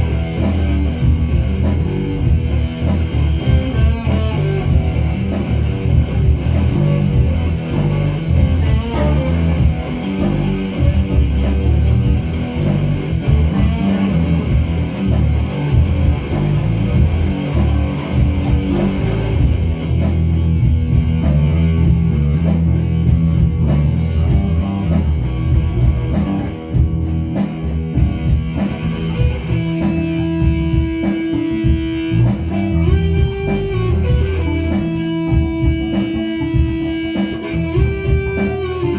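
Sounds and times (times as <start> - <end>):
electric guitars playing rock: 0.0 - 38.9.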